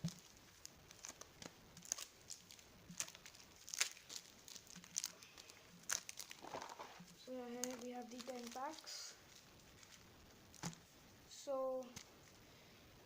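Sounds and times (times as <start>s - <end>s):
card packets crinkling: 0.0s - 10.8s.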